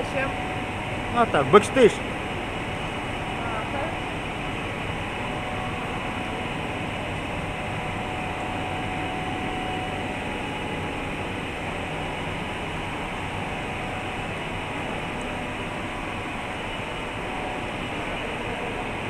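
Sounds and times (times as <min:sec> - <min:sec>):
machinery hum and hiss: 0:00.0 - 0:19.0.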